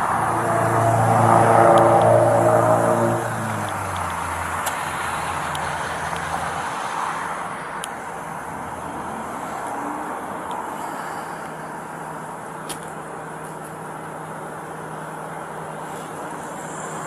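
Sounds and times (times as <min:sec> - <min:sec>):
car engines idling: 0:00.0 - 0:17.0
steady noise: 0:00.0 - 0:17.0.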